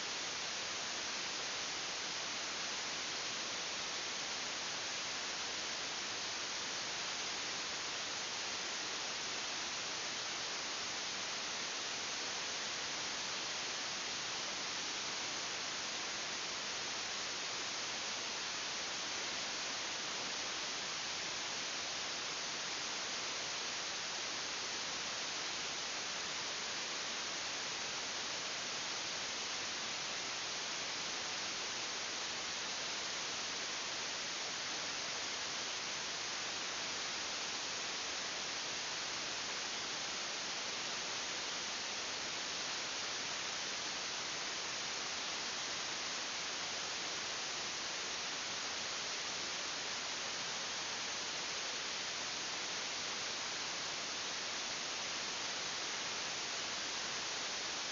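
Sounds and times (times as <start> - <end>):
steady hiss: 0.0 - 57.9.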